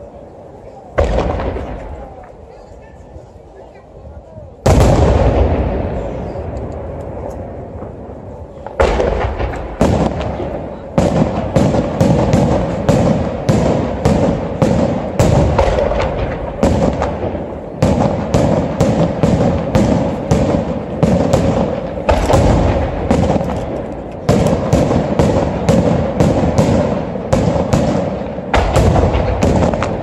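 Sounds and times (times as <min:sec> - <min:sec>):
fireworks bangs: 0:00.9 - 0:02.5, 0:04.6 - 0:30.0.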